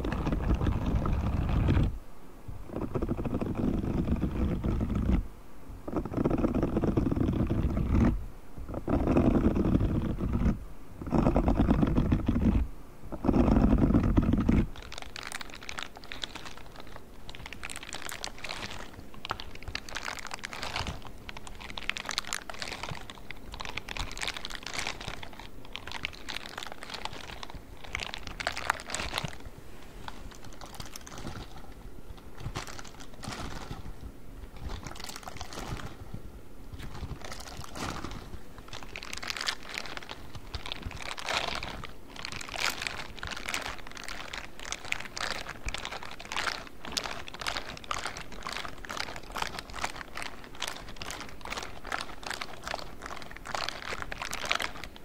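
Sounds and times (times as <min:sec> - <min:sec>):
rubber bristles scratching microphone: 0:00.0 - 0:02.0, 0:02.6 - 0:05.3, 0:05.9 - 0:54.9.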